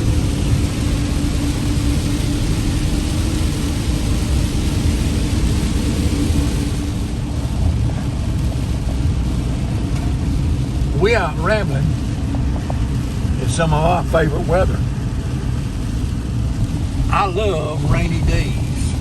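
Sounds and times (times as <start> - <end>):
steady hum: 0.0 - 19.0
vehicle engine and road noise: 0.0 - 19.0.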